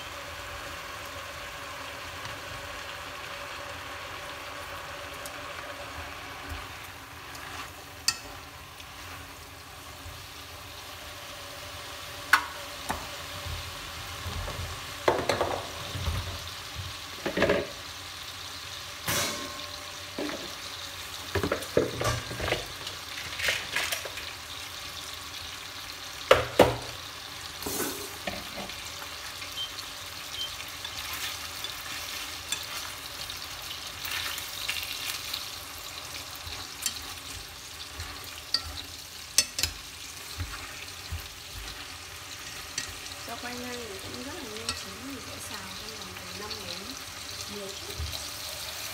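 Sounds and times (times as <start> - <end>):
greens sizzling in a pot: 0.0 - 48.9.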